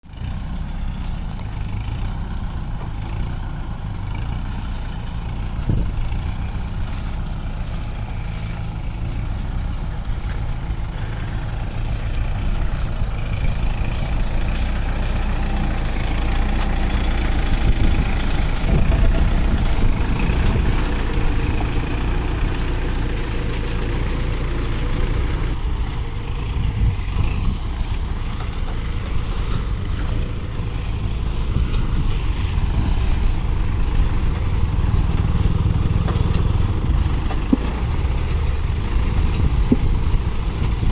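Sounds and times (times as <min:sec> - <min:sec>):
baler machinery: 0:00.0 - 0:40.9
engine low drone: 0:00.0 - 0:40.9.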